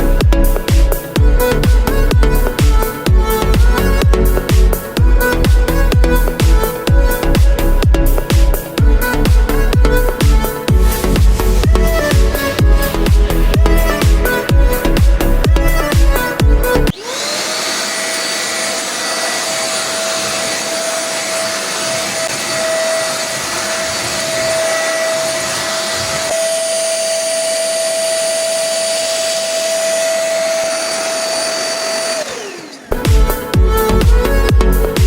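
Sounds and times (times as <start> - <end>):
stick vacuum cleaner running: 0.0 - 35.0.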